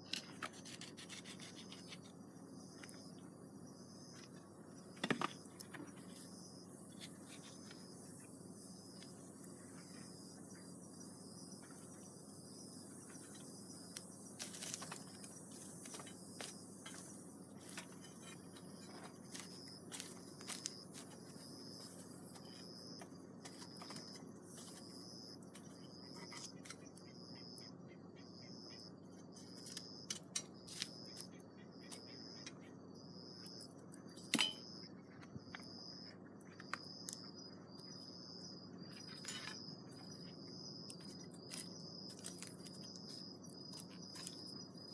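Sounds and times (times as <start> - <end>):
pulsing insect trill: 0.1 - 44.9.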